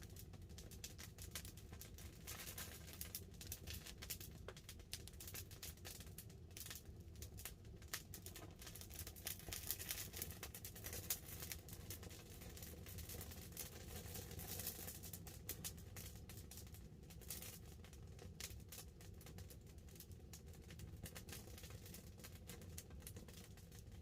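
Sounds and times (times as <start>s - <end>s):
campfire crackling: 0.0s - 24.0s
light rain on a tarp: 0.0s - 24.0s.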